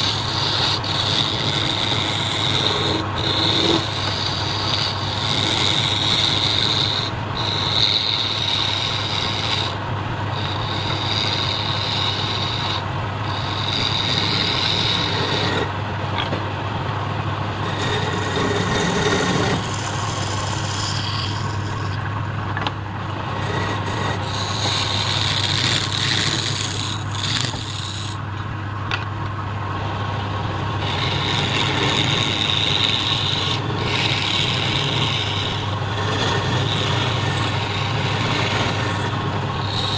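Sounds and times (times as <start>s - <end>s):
wood lathe humming: 0.0s - 16.0s, 17.2s - 28.6s, 29.6s - 39.9s
chisel cutting spinning wood: 0.0s - 16.4s, 17.5s - 29.0s, 30.1s - 39.9s.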